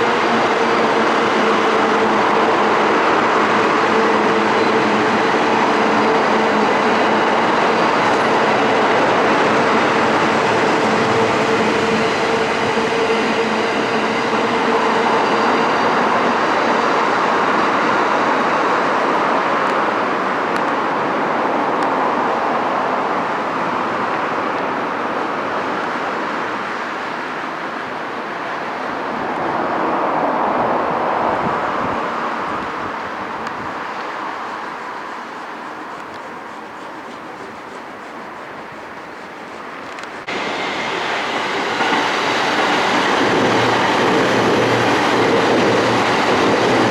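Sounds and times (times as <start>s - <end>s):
electric train rolling rumble: 0.0s - 46.9s.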